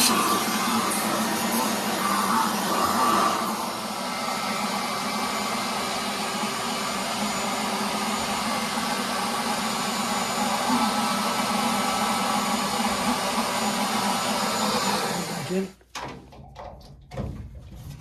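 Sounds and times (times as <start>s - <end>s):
electric motor and fan whirring: 0.0s - 15.8s.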